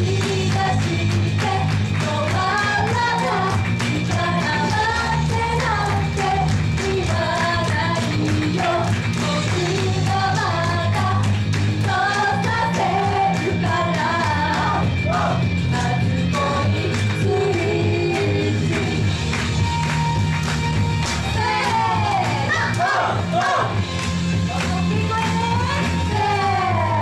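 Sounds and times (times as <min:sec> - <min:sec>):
women singing pop song: 0:00.0 - 0:19.2, 0:21.2 - 0:23.8, 0:24.6 - 0:27.0
backing track with steady beat: 0:00.0 - 0:27.0.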